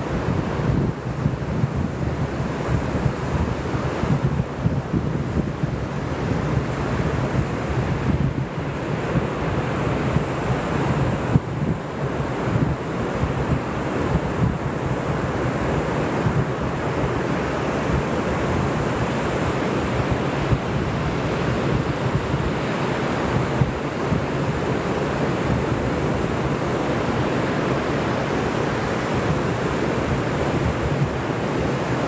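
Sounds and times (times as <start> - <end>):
ocean surf washing: 0.0 - 32.0
wind buffeting microphone: 0.0 - 32.0.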